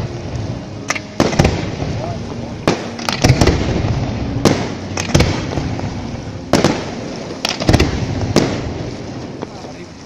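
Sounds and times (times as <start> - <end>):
firework bangs with rumbling echo: 1.2 - 9.8.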